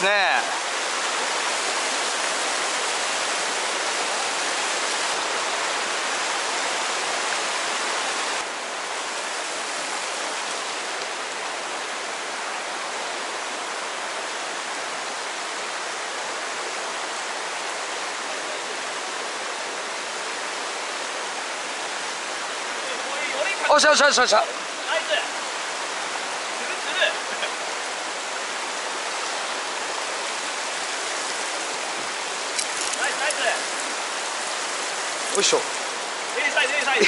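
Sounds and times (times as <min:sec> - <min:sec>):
stream rushing over rocks: 0:00.0 - 0:37.0.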